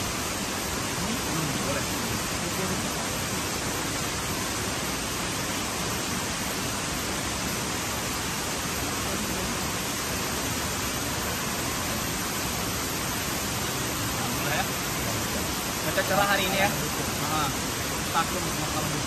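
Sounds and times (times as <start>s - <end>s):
water rushing through rapids: 0.0s - 19.0s.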